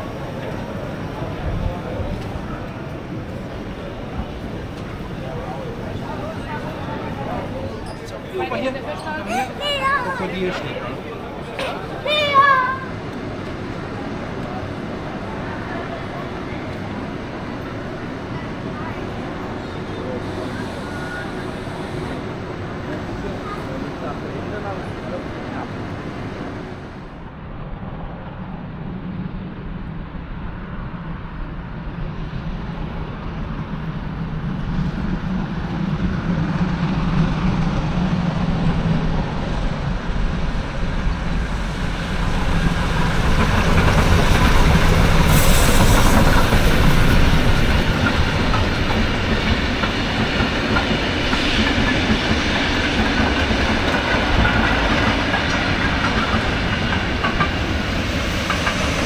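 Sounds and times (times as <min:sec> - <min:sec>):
train passing on rails: 0:00.0 - 0:59.0.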